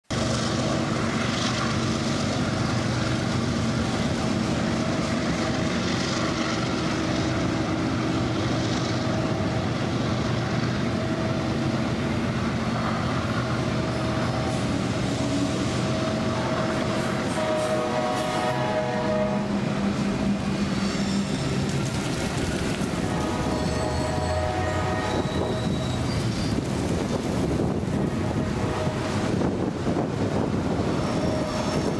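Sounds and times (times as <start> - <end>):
diesel locomotive engine drone: 0.0 - 31.9
freight cars rolling on rails: 0.1 - 31.9.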